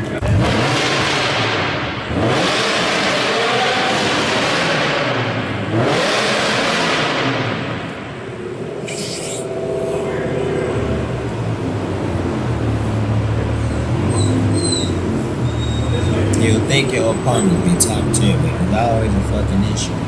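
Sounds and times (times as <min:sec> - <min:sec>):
car engine and exhaust bursts: 0:00.0 - 0:20.0
low steady engine rumble: 0:00.0 - 0:20.0.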